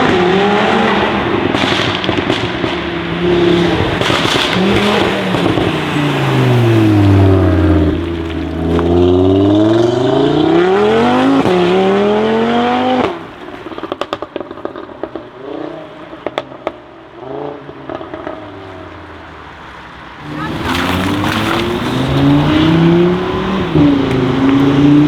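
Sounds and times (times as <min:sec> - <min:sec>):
car engine accelerating: 0:00.0 - 0:25.0
exhaust crackles and pops: 0:00.0 - 0:25.0.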